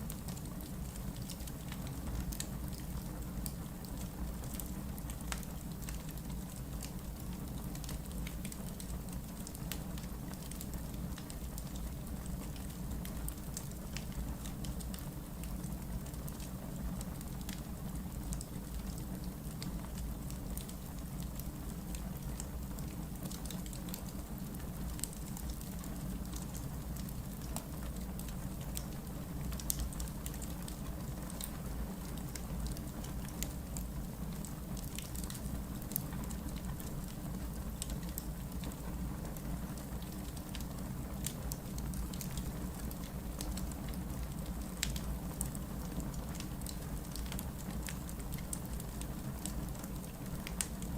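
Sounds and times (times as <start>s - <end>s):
low rumble of flames: 0.0s - 50.9s
burning logs crackling and popping: 0.1s - 50.9s.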